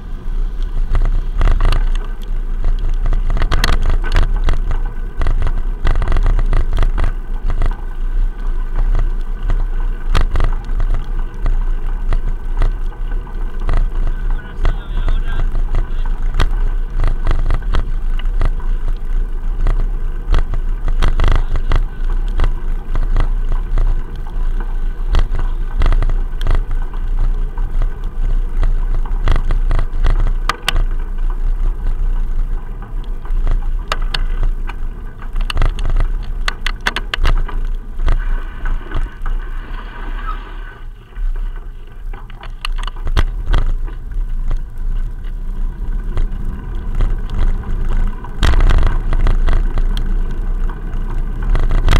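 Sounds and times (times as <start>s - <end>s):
muffled wind buffeting: 0.0s - 51.9s.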